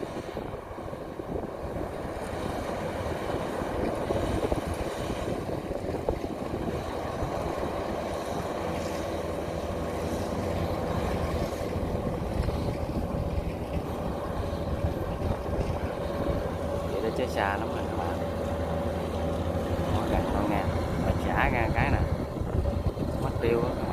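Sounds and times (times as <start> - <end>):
distant diesel engine running: 0.0 - 23.9.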